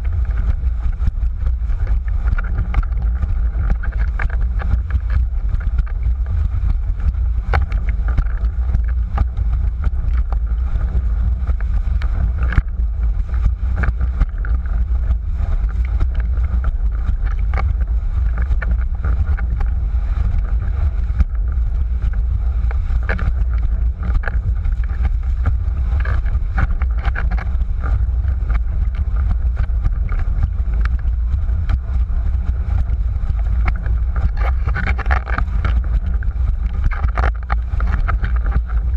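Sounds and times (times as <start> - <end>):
board slapping on waves: 0.0 - 38.9
wind buffeting microphone: 0.0 - 38.9.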